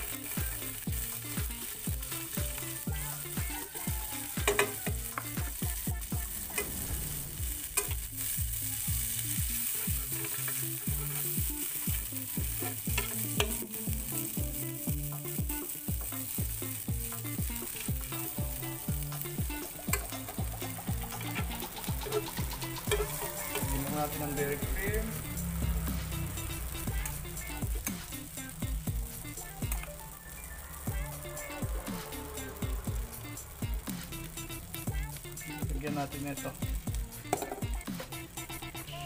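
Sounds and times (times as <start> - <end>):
margarine sizzling in a frying pan: 0.0 - 39.0.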